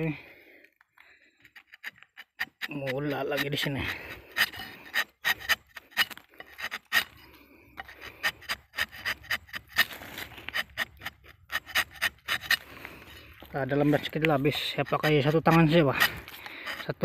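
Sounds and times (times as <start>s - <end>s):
knife shaving tree bark: 1.3s - 17.0s.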